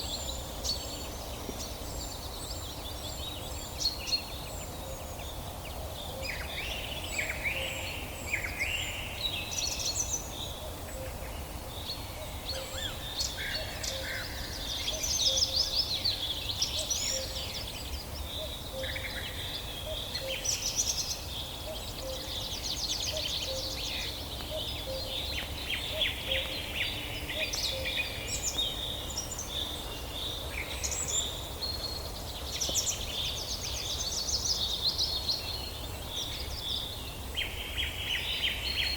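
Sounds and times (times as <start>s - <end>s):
songbirds singing and calling: 0.0s - 38.9s.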